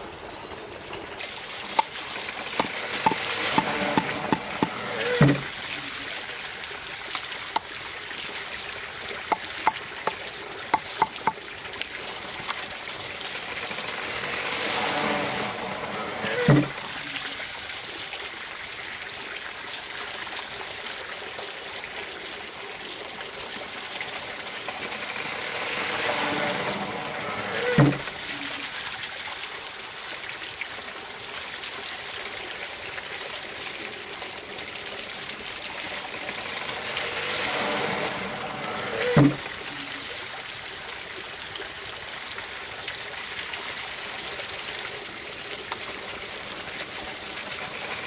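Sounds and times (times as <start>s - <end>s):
rushing water: 0.0s - 48.0s
water trickling: 0.0s - 48.0s.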